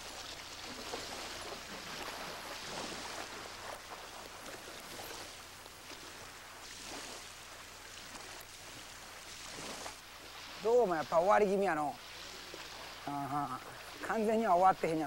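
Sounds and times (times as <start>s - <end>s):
water splashing from wading: 0.0s - 15.0s.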